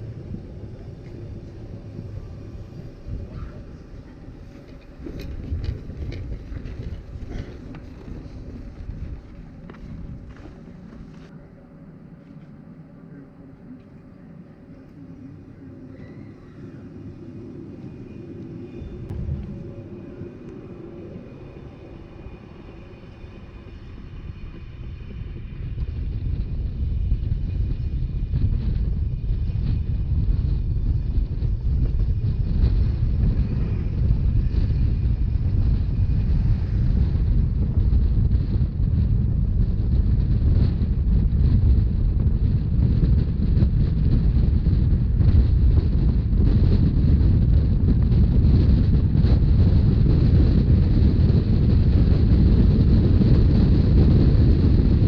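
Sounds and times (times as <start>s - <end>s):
train wheels rumbling on rails: 0.0s - 11.4s, 13.5s - 55.0s
wind on microphone: 0.0s - 55.0s.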